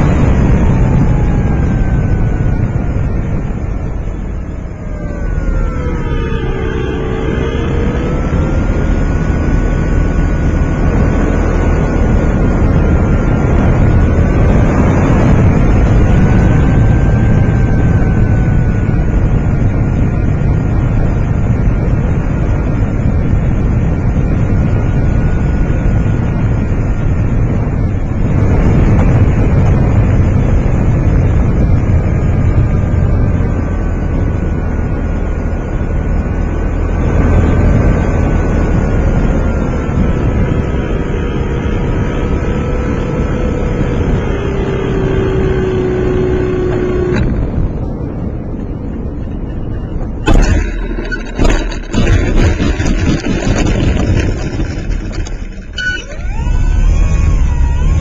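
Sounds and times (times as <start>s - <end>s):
model airplane motor whining: 0.0s - 29.7s, 31.1s - 47.5s, 50.2s - 58.0s
wind buffeting microphone: 0.0s - 58.0s.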